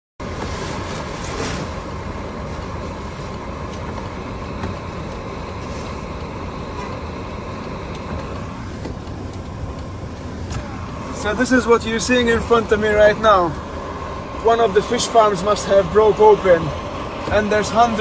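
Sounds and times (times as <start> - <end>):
car engine rumble from inside: 0.2 - 18.0.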